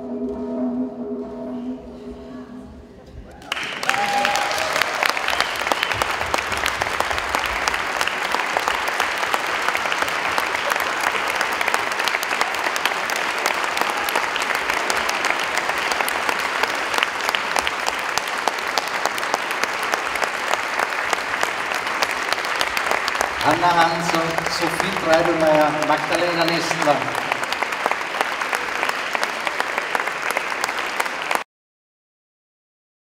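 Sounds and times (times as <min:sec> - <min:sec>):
audience applauding: 0:03.3 - 0:31.4.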